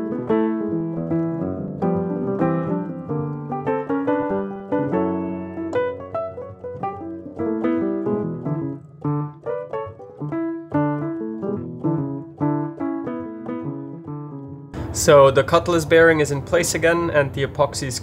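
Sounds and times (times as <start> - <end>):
piano playing notes and chords: 0.0 - 18.0.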